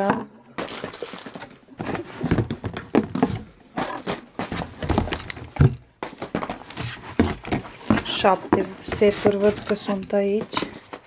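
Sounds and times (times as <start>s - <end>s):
plastic bottles clacking in box: 0.0s - 11.0s.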